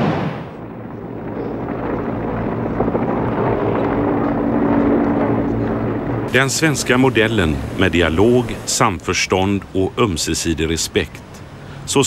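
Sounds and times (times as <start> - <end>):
helicopter flying: 0.5 - 11.9
steady hum: 0.6 - 11.8.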